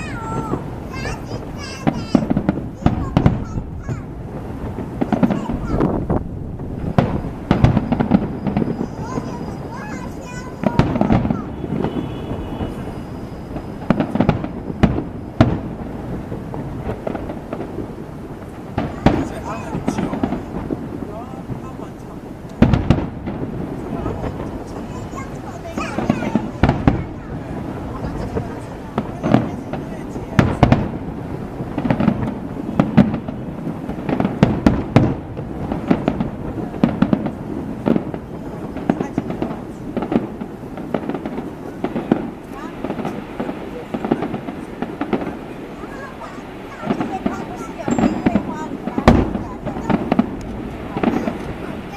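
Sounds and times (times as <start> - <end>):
loud firework bangs: 0.0 - 51.9
rumble of distant firework bursts: 0.0 - 51.9.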